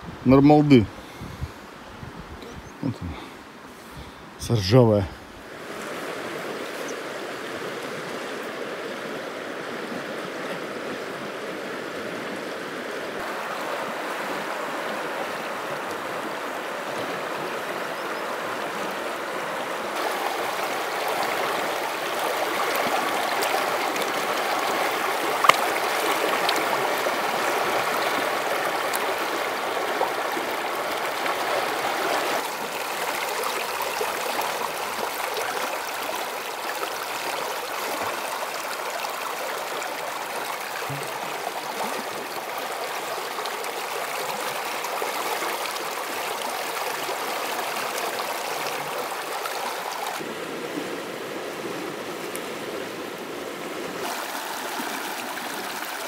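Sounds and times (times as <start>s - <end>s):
mountain stream rushing: 2.7s - 56.0s.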